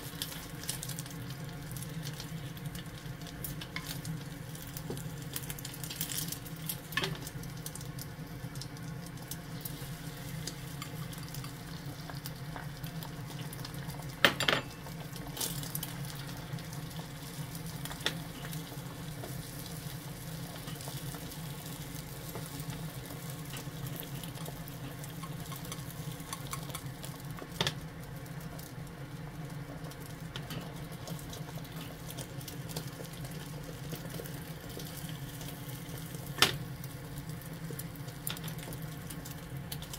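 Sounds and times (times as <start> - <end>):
egg sizzling in a pan: 0.0 - 39.9.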